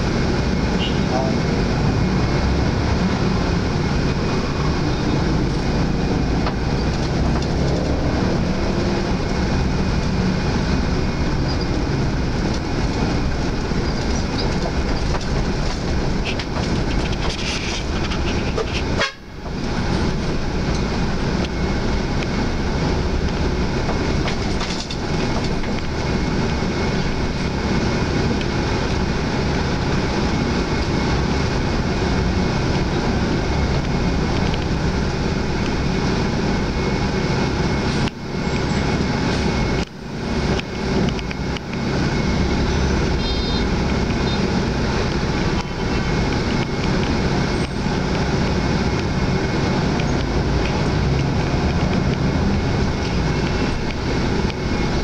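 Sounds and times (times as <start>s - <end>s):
engine and road rumble: 0.0s - 55.0s.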